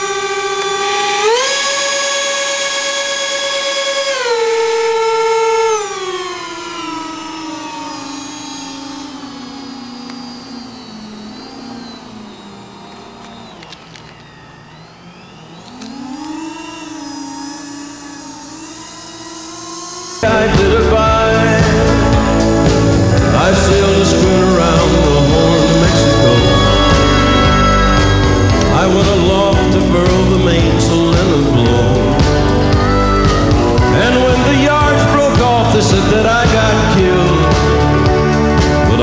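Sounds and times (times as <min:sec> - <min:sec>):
electric fan motor whine: 0:00.0 - 0:39.0.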